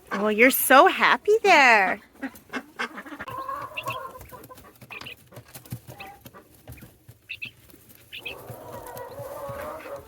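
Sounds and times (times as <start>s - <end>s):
chickens clucking: 1.8s - 10.0s.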